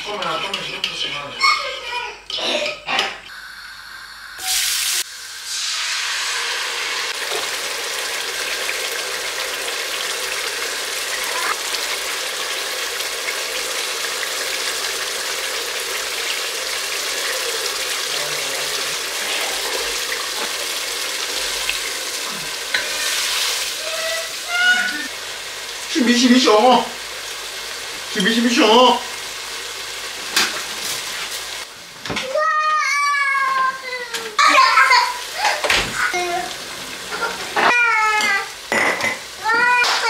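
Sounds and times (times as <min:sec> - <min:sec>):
food sizzling in hot oil: 0:03.3 - 0:40.0.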